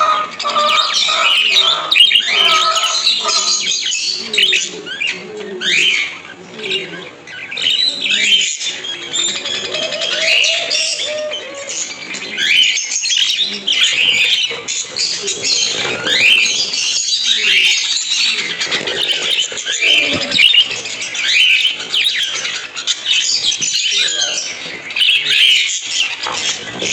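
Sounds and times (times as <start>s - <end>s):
budgerigars chattering: 0.0s - 26.9s.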